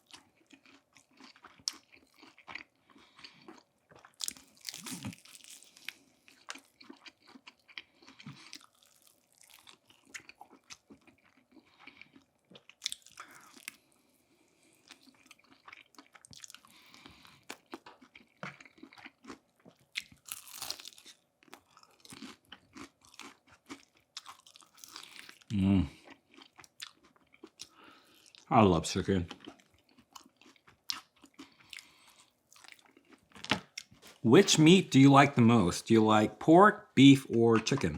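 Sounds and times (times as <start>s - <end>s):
person chewing crispy chicken: 0.0s - 35.3s.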